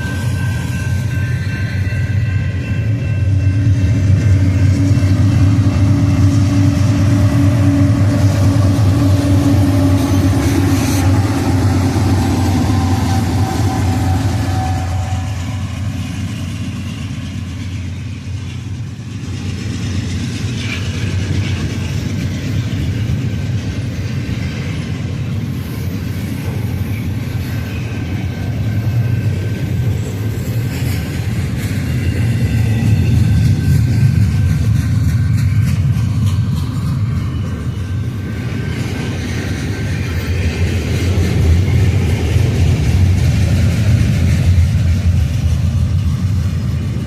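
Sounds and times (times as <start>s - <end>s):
high wheel squeal: 0.0s - 19.0s, 25.4s - 47.0s
freight train rumbling past: 0.0s - 47.0s.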